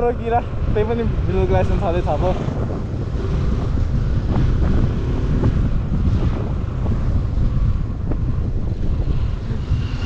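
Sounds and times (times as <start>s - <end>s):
motorcycle low rumble: 0.0s - 10.0s
wind rushing over microphone: 0.0s - 10.0s.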